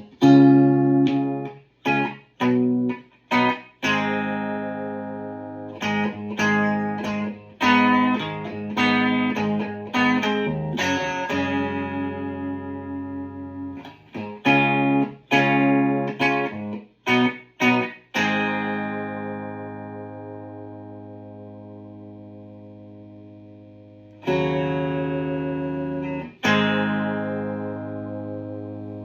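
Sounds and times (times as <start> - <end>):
electric guitar chords: 0.0 - 29.0.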